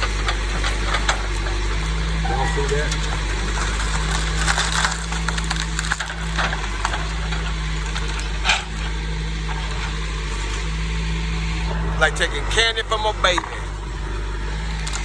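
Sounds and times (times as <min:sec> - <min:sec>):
diesel engine running: 0:00.0 - 0:15.0
trees cracking and splintering: 0:00.0 - 0:15.0.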